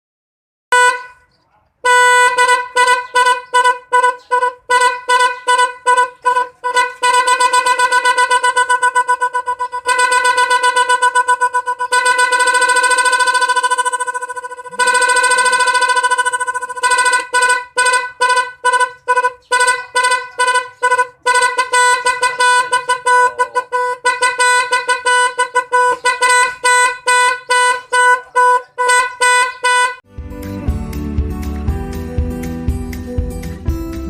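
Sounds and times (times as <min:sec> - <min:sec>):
horn blast and quick toots: 0:00.7 - 0:34.0.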